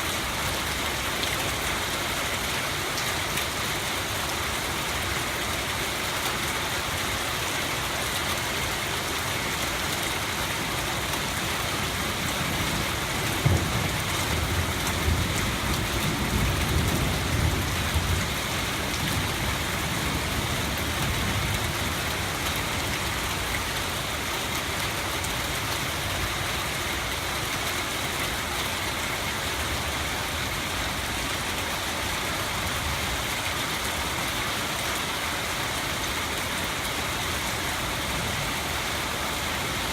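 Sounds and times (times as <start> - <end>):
rain splashing on hard surfaces: 0.0 - 39.9.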